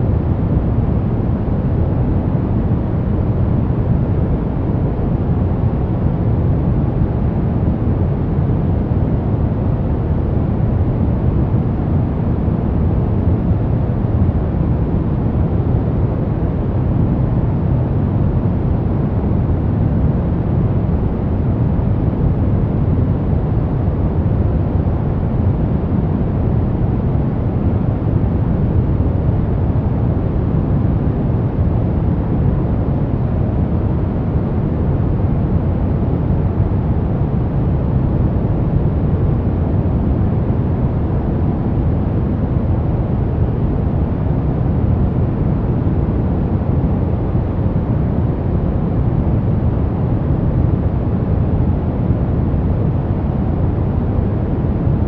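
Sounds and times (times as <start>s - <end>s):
deep white noise rush: 0.0s - 55.0s.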